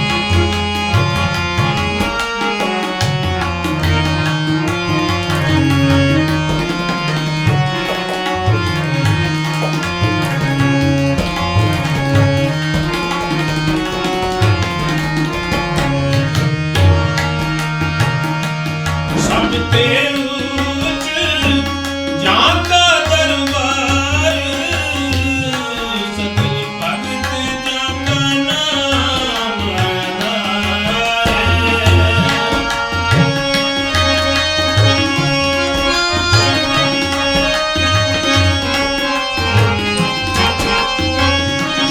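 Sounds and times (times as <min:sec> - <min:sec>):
harmonium tones: 0:00.0 - 0:41.9
tabla rhythm: 0:00.0 - 0:41.9.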